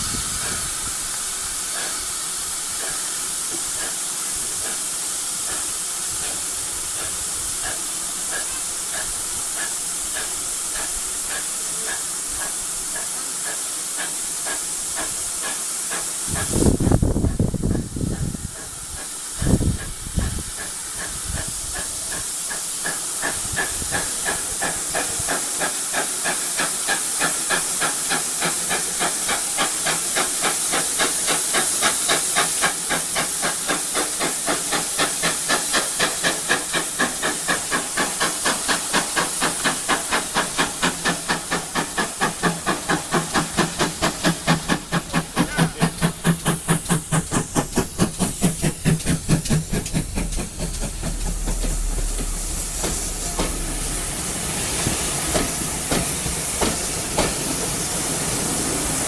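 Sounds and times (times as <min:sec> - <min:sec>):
steam hiss: 0:00.0 - 0:59.0
steam locomotive exhaust beats: 0:00.0 - 0:59.0.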